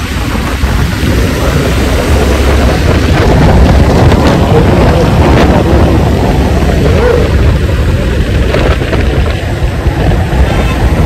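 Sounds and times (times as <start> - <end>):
road noise: 0.0 - 11.0
scooter engine: 0.0 - 11.0
wind buffeting microphone: 0.0 - 11.0.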